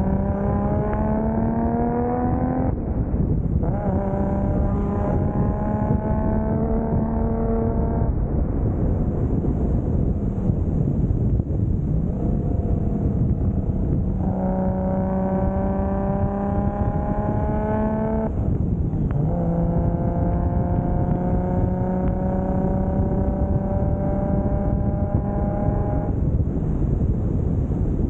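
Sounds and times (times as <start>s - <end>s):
car engine accelerating: 0.0s - 27.4s
road and wind noise: 0.0s - 28.0s.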